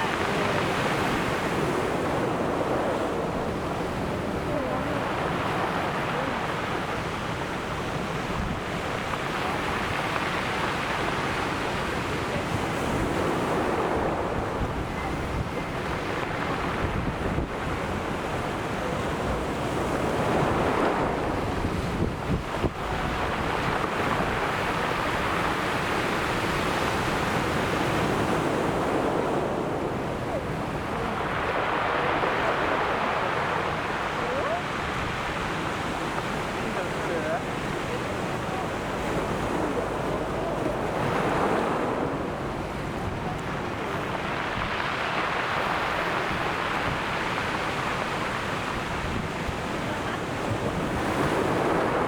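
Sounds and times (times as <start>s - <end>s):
waves breaking on shore: 0.0s - 52.0s
wind buffeting microphone: 0.0s - 52.0s.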